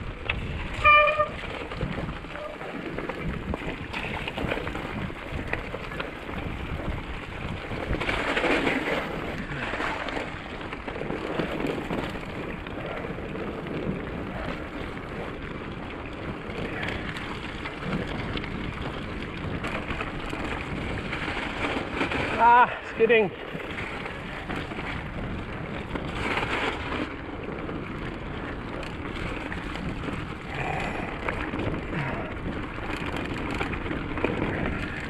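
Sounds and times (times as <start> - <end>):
bicycle tyres rolling through slush: 0.0 - 35.0
wind buffeting microphone: 0.0 - 35.0.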